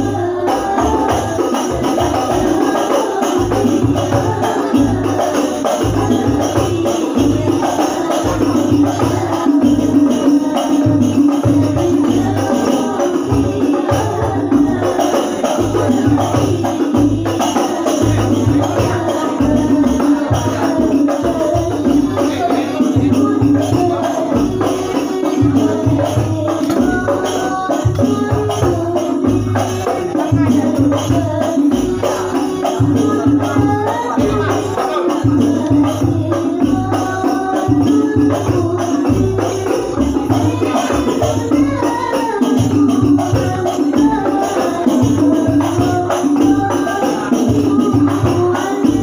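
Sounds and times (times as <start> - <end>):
frame drums playing fast rhythm: 0.0 - 49.0
woman singing: 0.0 - 49.0.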